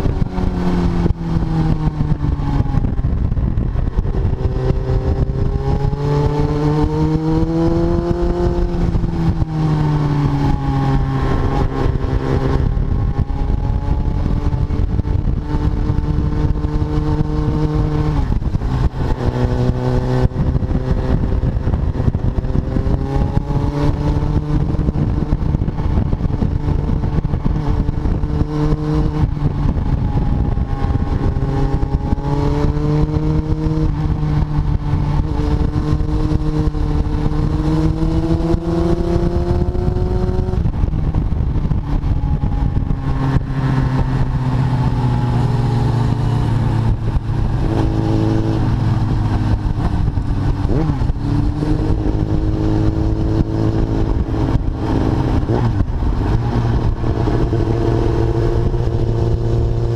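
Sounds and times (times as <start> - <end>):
motorcycle engine revving: 0.0 - 59.9
wind noise: 0.0 - 59.9.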